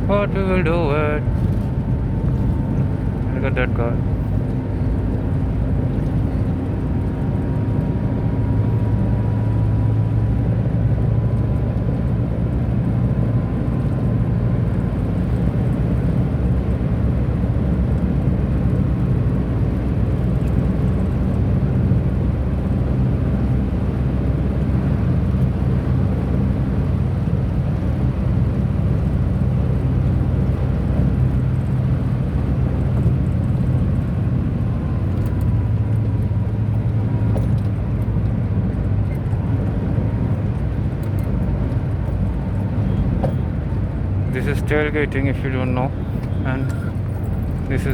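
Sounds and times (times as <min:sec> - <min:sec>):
road and tyre noise: 0:00.0 - 0:47.9.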